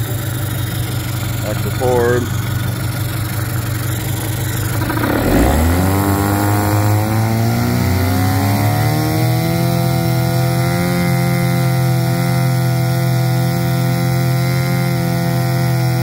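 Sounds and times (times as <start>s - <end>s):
outboard motor running: 0.0s - 16.0s
propeller churning water: 0.0s - 16.0s.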